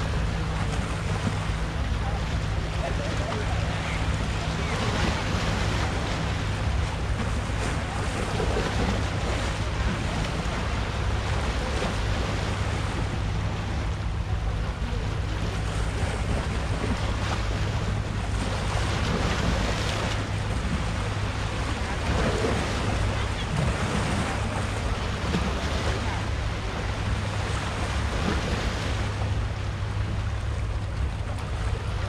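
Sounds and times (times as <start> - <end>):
sea surf on rocky shore: 0.0 - 32.0.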